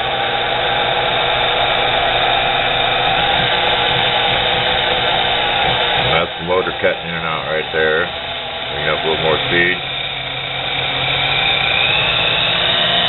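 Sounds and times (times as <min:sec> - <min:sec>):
lathe motor whirring hum: 0:00.0 - 0:13.0.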